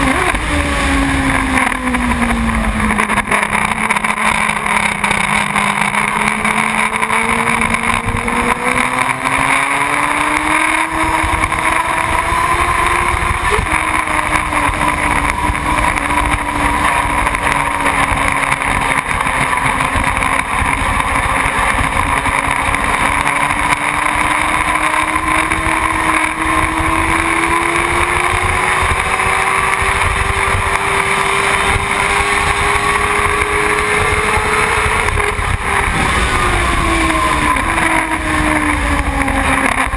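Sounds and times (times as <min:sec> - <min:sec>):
motorcycle engine accelerating: 0:00.0 - 0:39.9
wind noise: 0:00.0 - 0:39.9.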